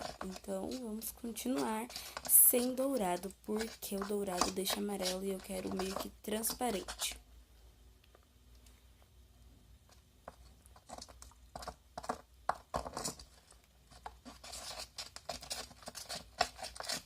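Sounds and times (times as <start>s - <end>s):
utensil scraping plastic container: 0.0s - 7.2s, 10.3s - 17.0s.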